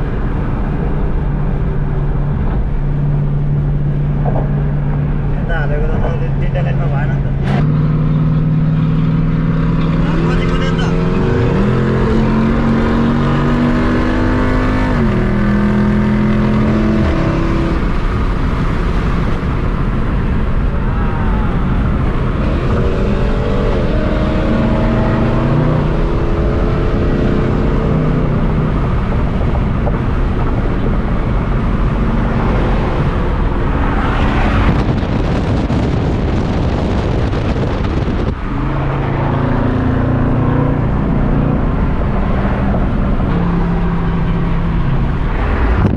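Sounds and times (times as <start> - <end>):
car engine accelerating: 0.0 - 45.9
road and wind noise: 0.0 - 45.9.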